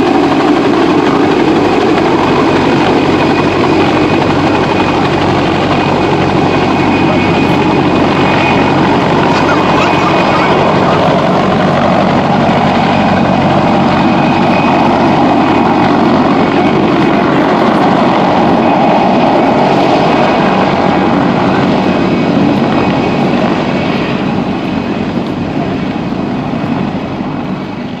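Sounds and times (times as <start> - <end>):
helicopter running: 0.0 - 28.0.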